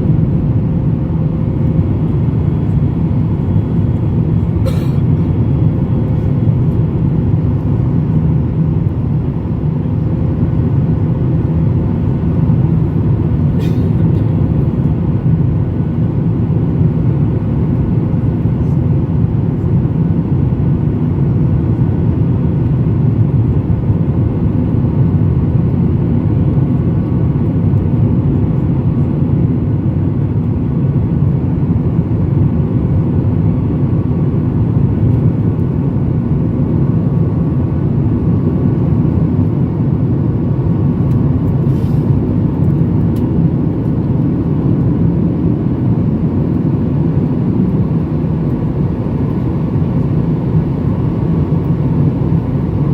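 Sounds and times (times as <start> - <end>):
jet engines in airplane cabin: 0.0 - 52.9.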